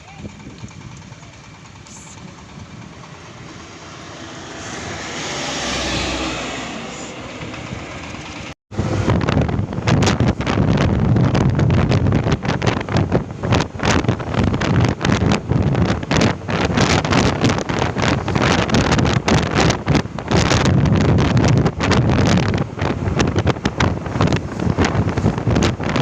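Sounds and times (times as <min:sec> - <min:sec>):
wind buffeting microphone: 0:00.0 - 0:26.0
low rumble: 0:00.2 - 0:26.0
road vehicle passing: 0:01.4 - 0:10.6, 0:12.5 - 0:26.0.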